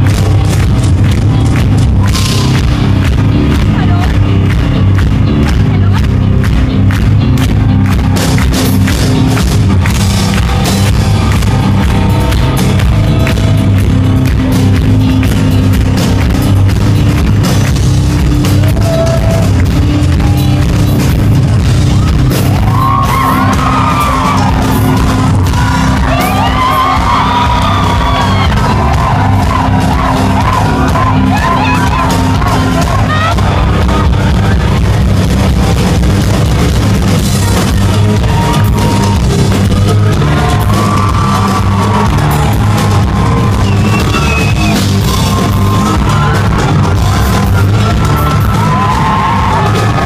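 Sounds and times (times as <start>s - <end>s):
hard rock band playing: 0.0s - 50.0s.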